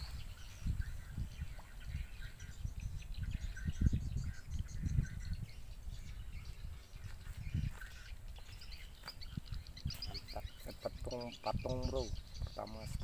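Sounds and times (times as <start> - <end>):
small birds chirping: 0.0 - 13.0
wind buffeting microphone: 0.0 - 13.0.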